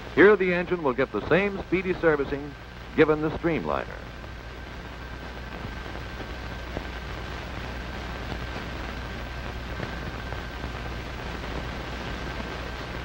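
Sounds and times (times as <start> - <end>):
film soundtrack hiss: 0.0 - 13.0
low hum: 0.0 - 13.0.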